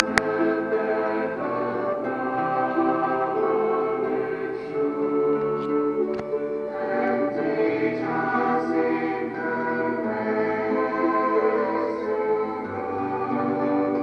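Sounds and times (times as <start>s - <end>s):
choir singing sacred music: 0.0s - 14.0s.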